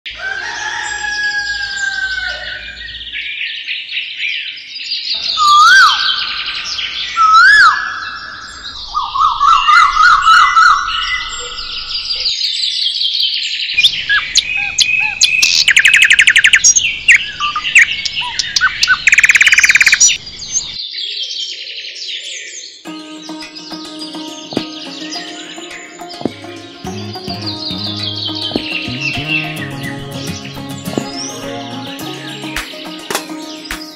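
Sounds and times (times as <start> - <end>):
songbirds chirping and trilling: 0.1 - 33.9.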